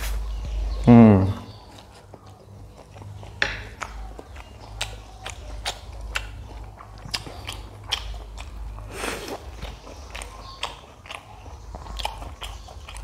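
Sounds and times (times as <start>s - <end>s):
chewing noodles: 1.5s - 13.0s.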